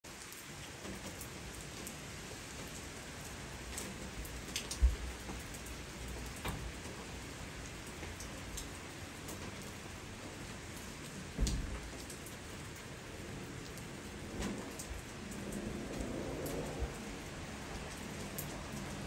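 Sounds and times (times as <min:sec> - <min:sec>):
rain falling: 0:00.0 - 0:19.0
raindrops ticking close by: 0:00.0 - 0:19.0.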